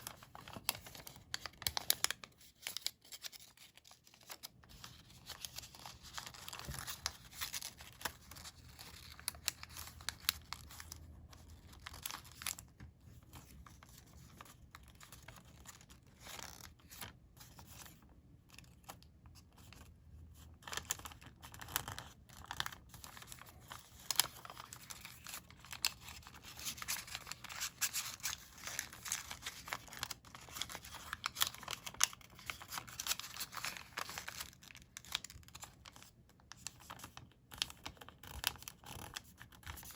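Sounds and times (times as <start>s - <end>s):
paper crinkling and creasing: 0.0s - 39.9s.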